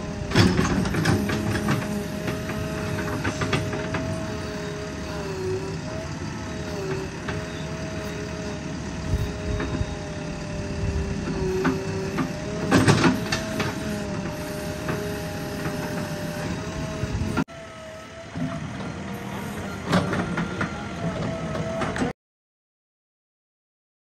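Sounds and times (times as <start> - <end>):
backhoe engine and hydraulics whine: 0.0 - 22.2.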